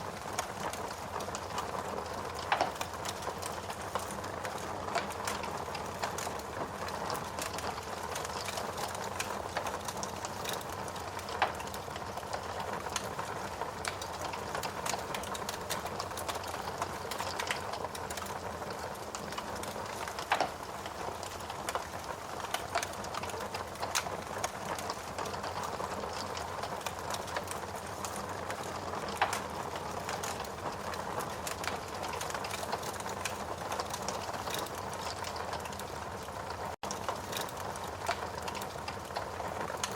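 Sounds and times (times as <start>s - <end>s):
wood fire hissing and crackling: 0.0s - 39.9s
loud pops and snaps of fire: 0.1s - 39.9s.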